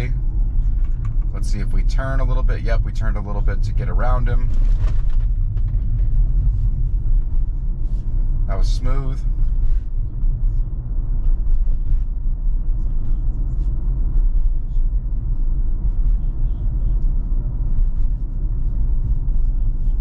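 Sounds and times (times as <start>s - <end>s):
tyre and road noise in car: 0.0s - 20.0s.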